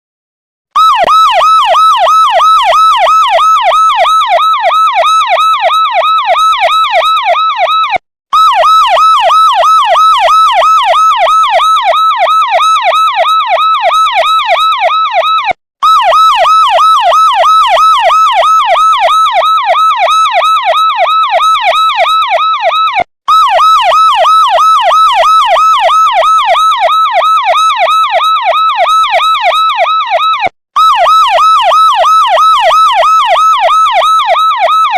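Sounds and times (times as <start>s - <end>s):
electronic police siren wailing: 0.8s - 34.9s.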